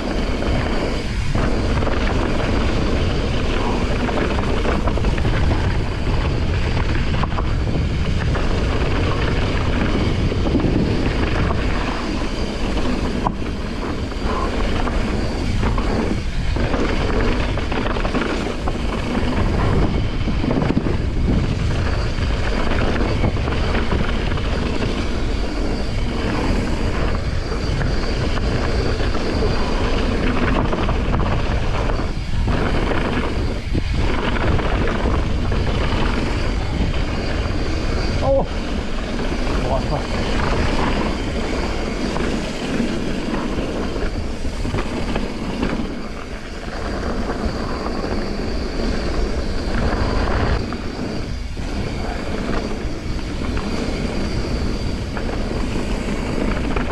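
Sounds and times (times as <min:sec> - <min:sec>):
bike tyres rolling over gravel: 0:00.0 - 0:56.9
wind buffeting microphone: 0:00.0 - 0:56.9.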